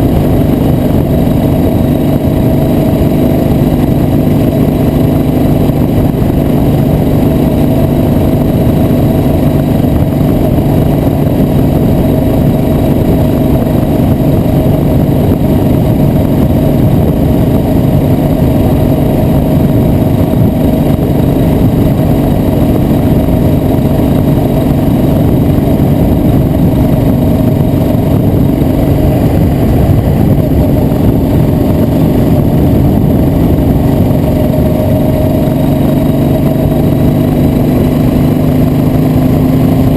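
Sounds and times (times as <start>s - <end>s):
road noise: 0.0s - 39.9s
vehicle engine cruising: 0.0s - 39.9s
wind noise on microphone: 0.0s - 39.9s.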